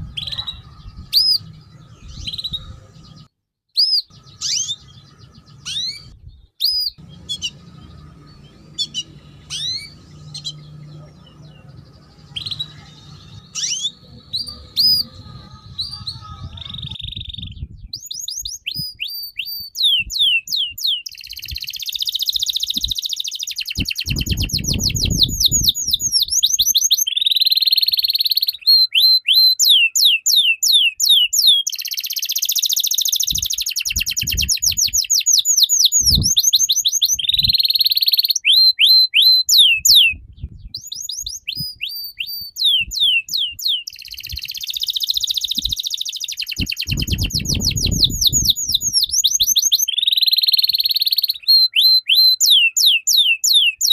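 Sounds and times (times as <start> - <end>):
songbird whistling song: 0.0 - 53.9.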